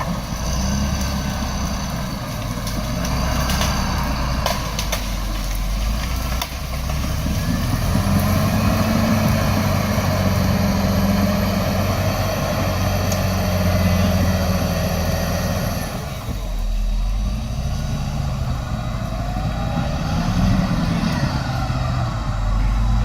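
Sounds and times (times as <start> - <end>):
heavy diesel engine under load: 0.0 - 23.0.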